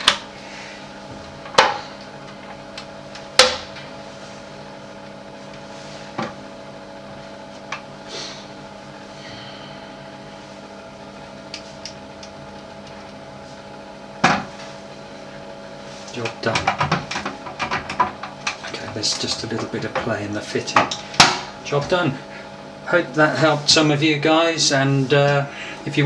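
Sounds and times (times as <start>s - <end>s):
extractor fan humming: 0.0s - 26.0s.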